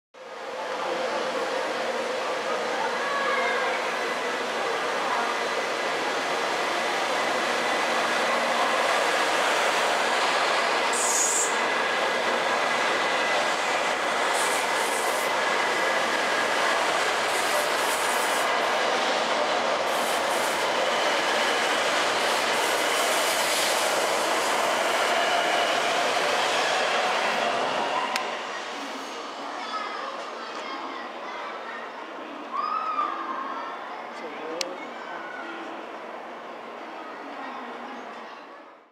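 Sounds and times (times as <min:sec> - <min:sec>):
train running and wheel noise: 0:00.2 - 0:32.6, 0:33.7 - 0:38.9.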